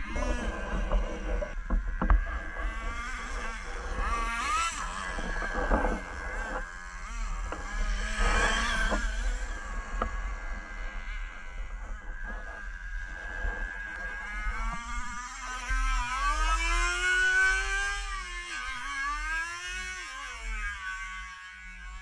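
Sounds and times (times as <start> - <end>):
rc truck engine revving: 0.0 - 22.0.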